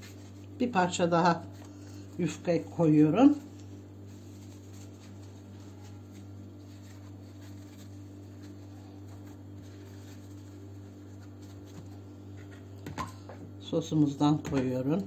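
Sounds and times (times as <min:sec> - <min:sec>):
pastry sheets rustling and crinkling: 0:00.0 - 0:12.8
steady low hum: 0:00.0 - 0:15.0.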